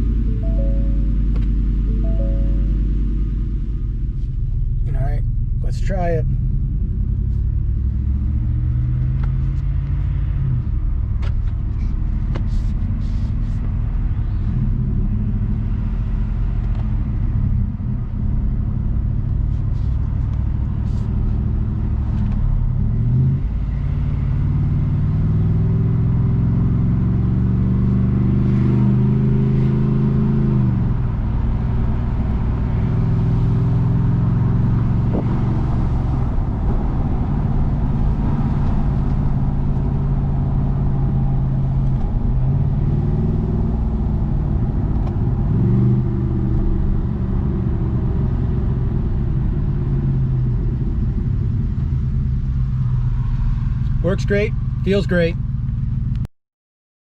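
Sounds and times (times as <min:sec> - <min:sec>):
low road rumble: 0:00.0 - 0:56.3
truck engine accelerating: 0:00.0 - 0:56.3.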